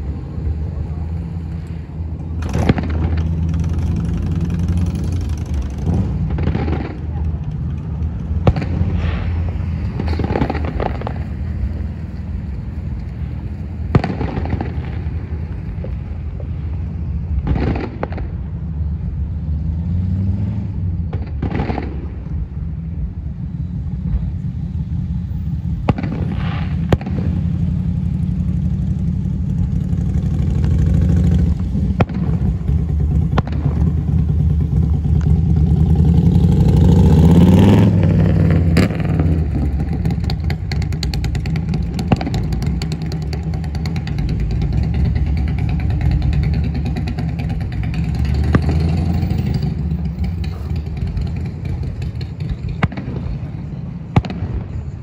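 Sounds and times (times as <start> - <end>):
vehicle engines rumbling: 0.0 - 55.0
vehicle passing by: 0.0 - 55.0
distant fireworks booming: 2.3 - 18.9, 21.0 - 22.9, 23.8 - 55.0.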